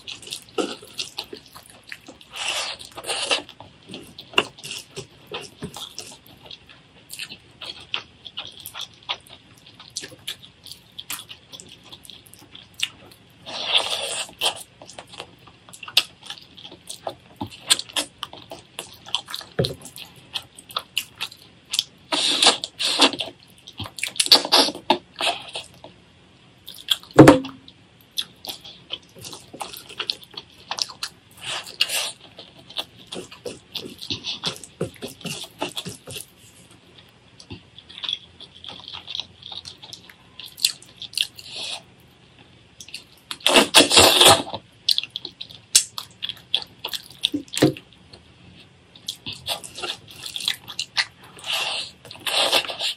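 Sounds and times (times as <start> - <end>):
wet chewing and smacking: 0.0 - 26.0, 26.6 - 52.9.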